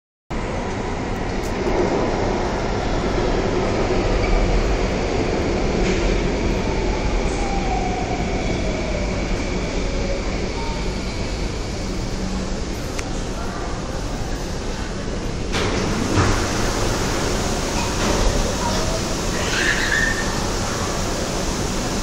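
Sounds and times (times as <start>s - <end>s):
metro train rumbling into station: 0.3s - 22.0s.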